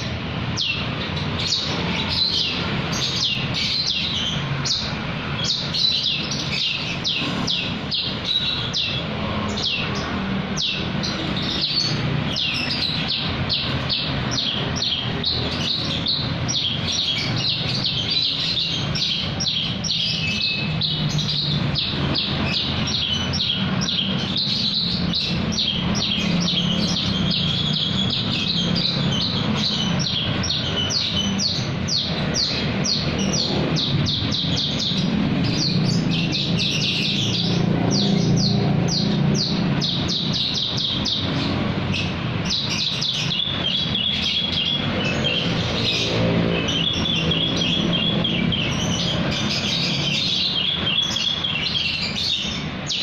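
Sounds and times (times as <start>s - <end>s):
lark singing: 0.0s - 53.0s.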